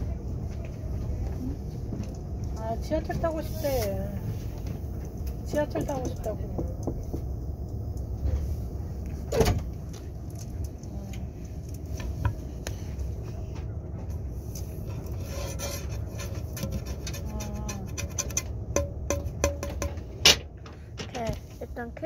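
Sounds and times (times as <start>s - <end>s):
train carriage interior rumble: 0.0s - 22.0s.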